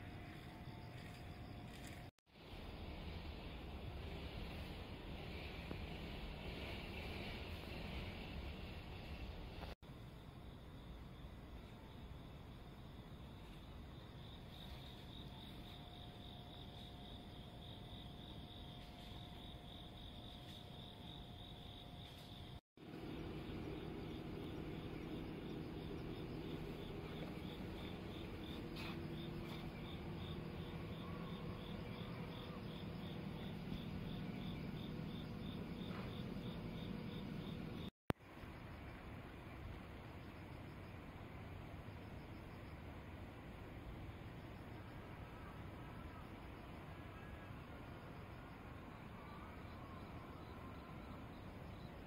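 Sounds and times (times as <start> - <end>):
insect chirping: 0.0 - 2.1, 9.9 - 52.0
low steady hum: 0.0 - 52.0.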